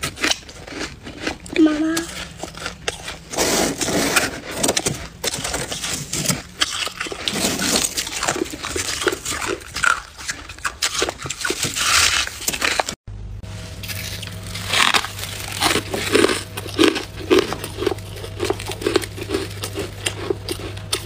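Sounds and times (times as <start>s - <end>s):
frost being chewed and crunched: 0.0s - 13.0s, 13.7s - 21.0s.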